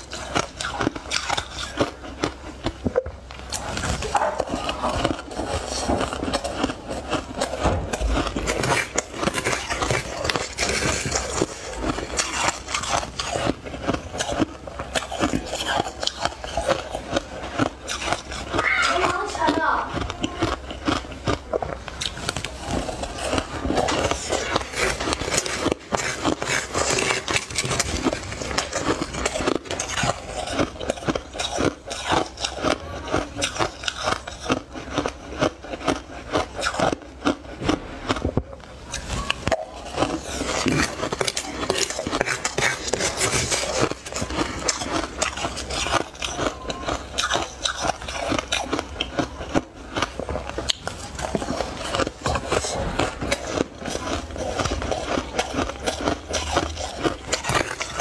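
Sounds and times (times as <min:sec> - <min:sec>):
chewing crunchy ice: 0:00.0 - 0:58.0.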